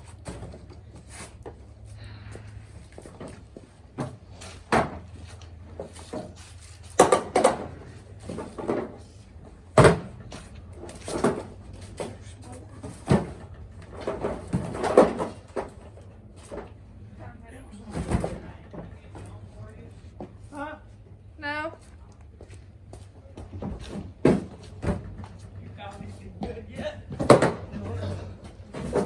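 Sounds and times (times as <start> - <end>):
boxes knocking and clunking: 0.0 - 20.5, 23.4 - 29.0.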